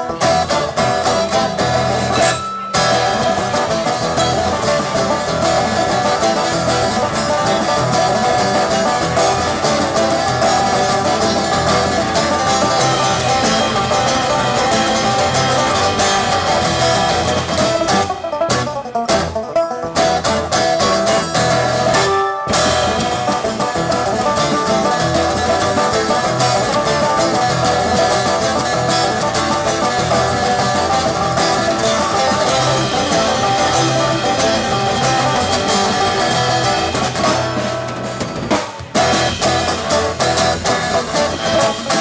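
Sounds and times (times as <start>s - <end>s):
bluegrass string band playing: 0.0s - 42.0s.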